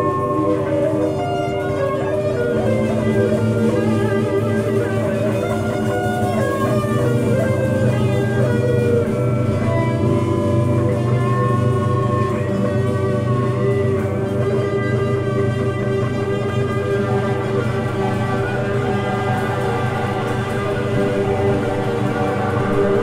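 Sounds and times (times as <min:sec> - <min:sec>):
electric guitar sustained notes: 0:00.0 - 0:23.0
steady bass: 0:00.0 - 0:23.0.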